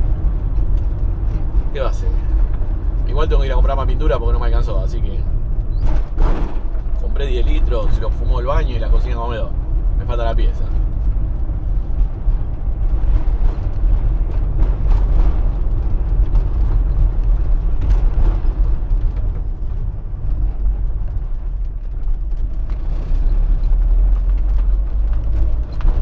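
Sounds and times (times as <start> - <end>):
van engine and road rumble: 0.0 - 26.0.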